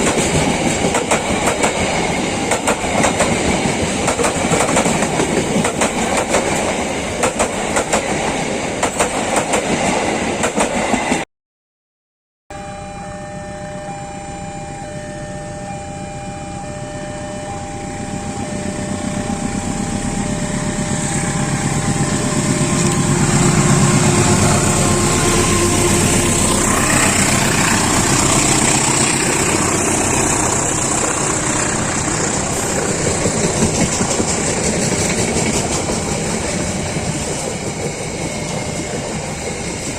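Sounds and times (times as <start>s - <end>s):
diesel locomotive engine: 0.0s - 11.2s, 12.5s - 39.9s.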